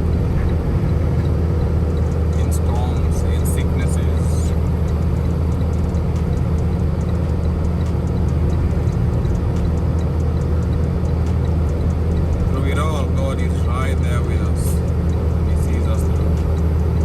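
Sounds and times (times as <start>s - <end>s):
truck engine drone in cab: 0.0s - 17.0s.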